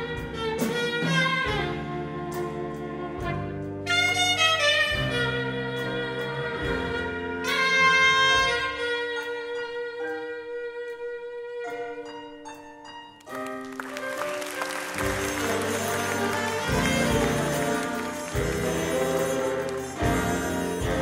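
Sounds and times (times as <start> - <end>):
saxophone solo: 0.0 - 12.3, 13.3 - 21.0
bass: 0.0 - 21.0
piano: 0.0 - 21.0.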